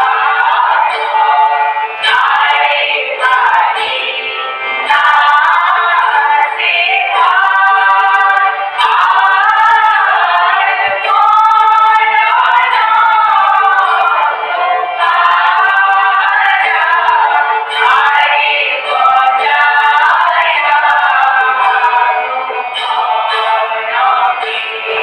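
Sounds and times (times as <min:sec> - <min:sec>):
female choir singing: 0:00.0 - 0:25.0
harmonium drone: 0:00.0 - 0:25.0.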